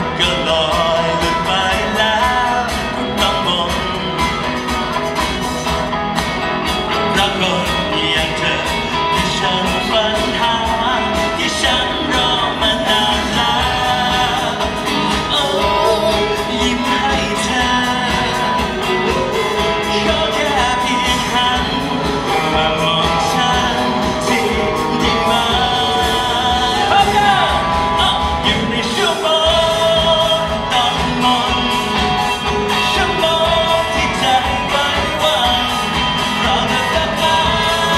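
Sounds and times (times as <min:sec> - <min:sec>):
drum beat: 0:00.0 - 0:37.9
live pop-rock band: 0:00.0 - 0:37.9
person singing: 0:00.0 - 0:37.9.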